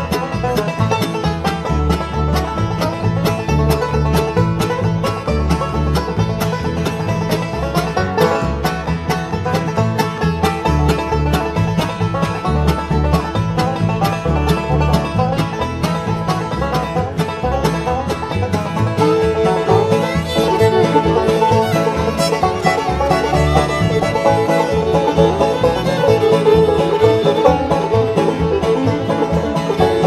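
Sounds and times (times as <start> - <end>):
bass keeping a steady beat: 0.0 - 30.0
fast banjo picking: 0.0 - 30.0
fiddle: 0.0 - 30.0
guitar: 0.0 - 30.0.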